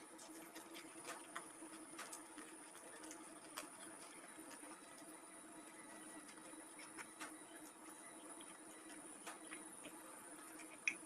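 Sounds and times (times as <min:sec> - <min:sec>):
faint room hum: 0:00.0 - 0:11.0.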